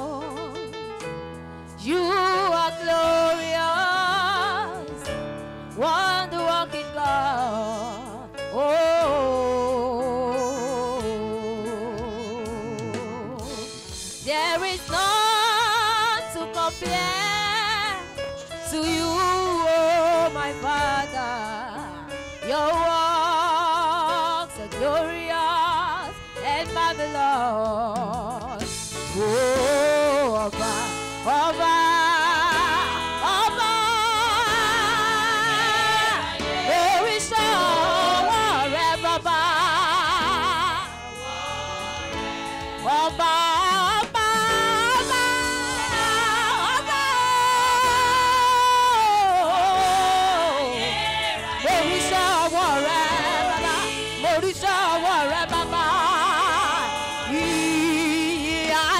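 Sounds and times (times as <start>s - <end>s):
woman singing gospel solo: 0.0s - 0.6s, 1.8s - 13.6s, 14.2s - 58.9s.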